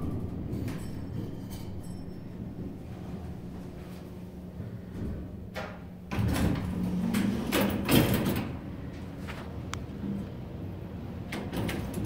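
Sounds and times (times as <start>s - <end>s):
elevator doors sliding: 0.0s - 12.0s
low steady hum: 0.0s - 12.0s.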